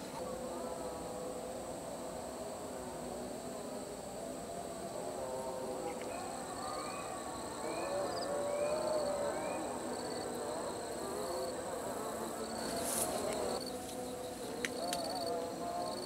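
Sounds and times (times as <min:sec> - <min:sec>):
distant call to prayer: 0:00.0 - 0:16.0
insect chorus buzzing and chirping: 0:00.0 - 0:16.0.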